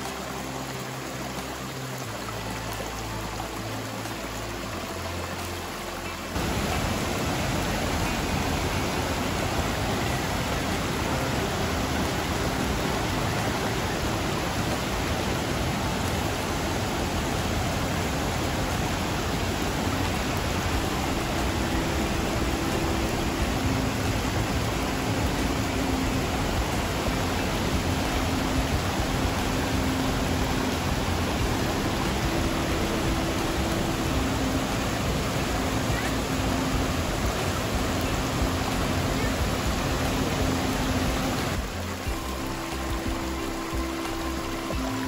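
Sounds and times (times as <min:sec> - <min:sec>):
background music: 0:00.0 - 0:45.0
river water rushing over weir: 0:00.0 - 0:45.0.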